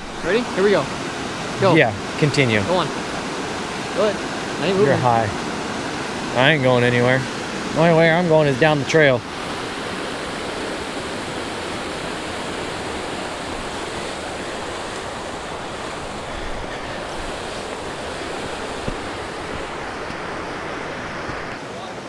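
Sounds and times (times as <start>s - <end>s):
water running over rocks: 0.0s - 21.6s.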